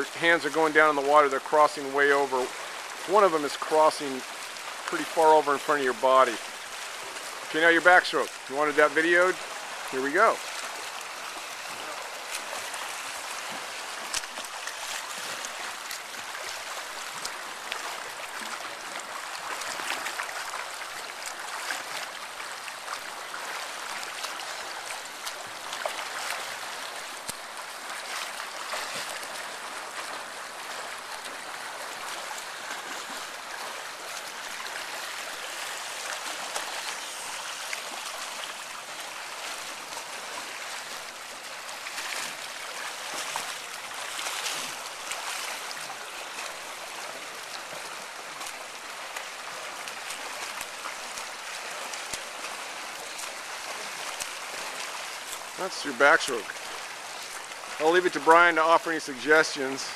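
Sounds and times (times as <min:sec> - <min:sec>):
swimmer splashing water: 0:00.0 - 0:59.9.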